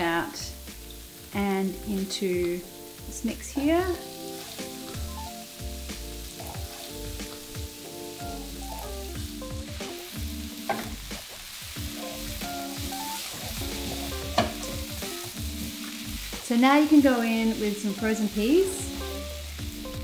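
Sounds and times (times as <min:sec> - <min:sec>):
food sizzling in a wok: 0:00.0 - 0:20.0
soft background music: 0:00.0 - 0:20.0.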